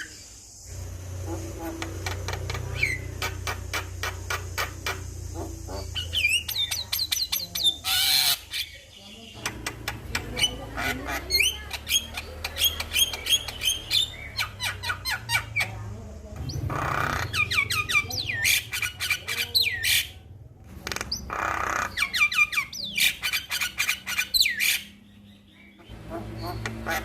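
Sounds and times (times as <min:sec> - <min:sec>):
myna harsh rasping calls: 0:00.0 - 0:20.3, 0:20.9 - 0:24.9, 0:25.8 - 0:27.0.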